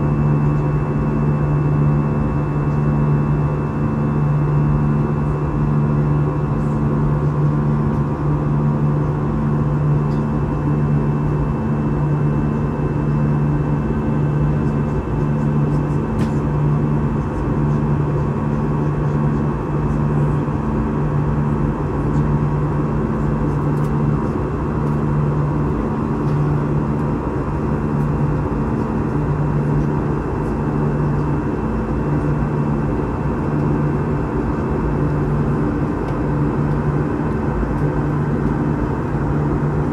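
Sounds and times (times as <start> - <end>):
jet cabin engine rush: 0.0 - 39.9
low throbbing drone: 0.0 - 39.9.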